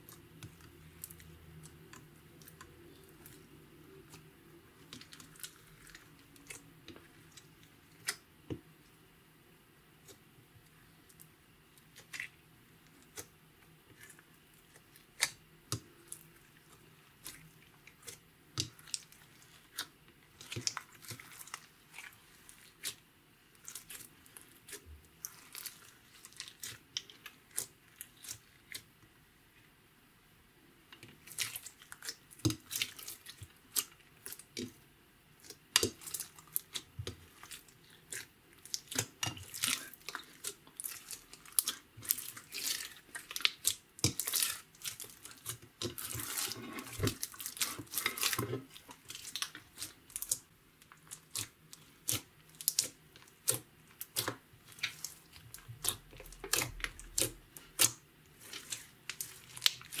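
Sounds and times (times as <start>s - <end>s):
slime squelching: 0.0s - 9.0s, 10.0s - 29.0s, 30.9s - 60.0s.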